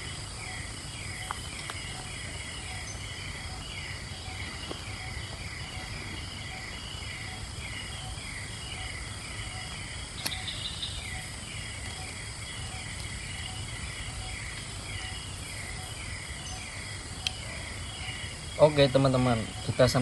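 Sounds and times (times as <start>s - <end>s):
high insect hiss: 0.0s - 20.0s.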